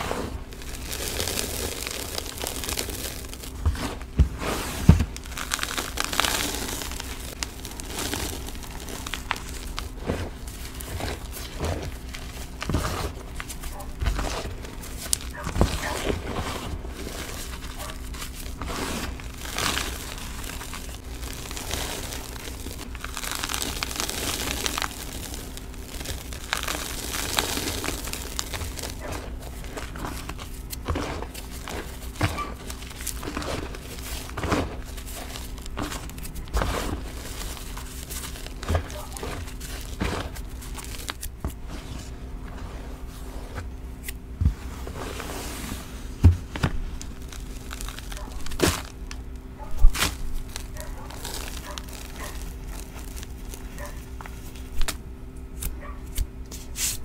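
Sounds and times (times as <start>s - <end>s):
chalk crunching and crumbling: 0.0s - 57.0s
powdery swishing and pressing: 0.0s - 57.0s.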